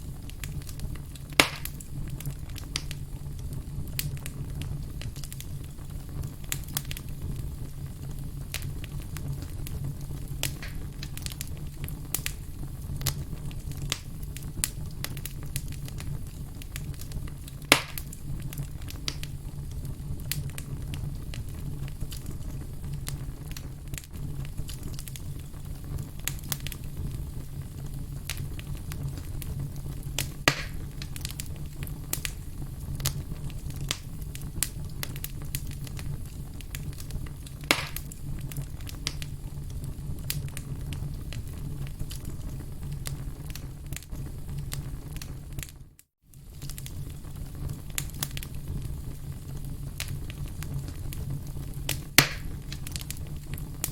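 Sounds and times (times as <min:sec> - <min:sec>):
campfire crackling: 0:00.0 - 0:53.9
loud fire pops: 0:00.0 - 0:53.9.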